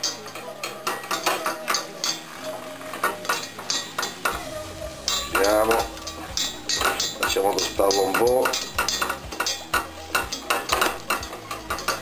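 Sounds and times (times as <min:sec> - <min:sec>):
wire whisk scraping a metal pot: 0:00.0 - 0:12.0.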